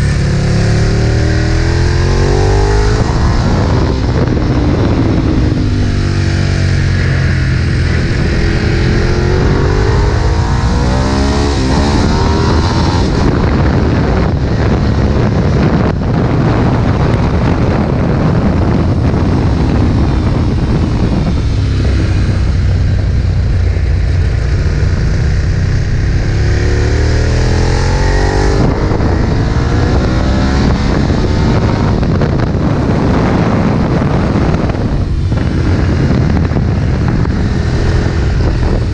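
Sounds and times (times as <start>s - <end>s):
motorcycle engine revving: 0.0s - 38.9s
wind rushing on microphone: 0.0s - 38.9s.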